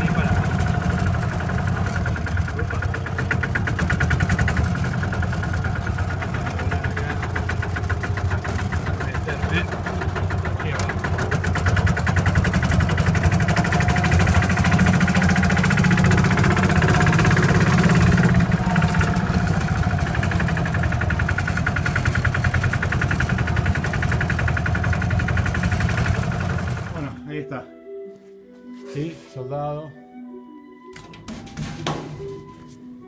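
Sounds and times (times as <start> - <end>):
diesel engine knocking: 0.0 - 27.2.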